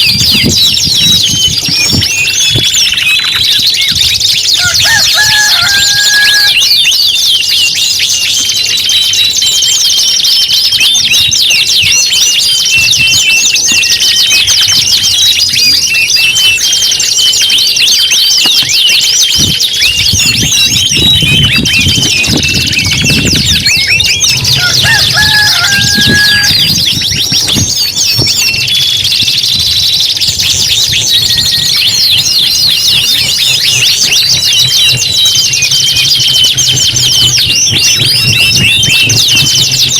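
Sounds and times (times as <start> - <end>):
canaries singing rapid trills: 0.0 - 39.9.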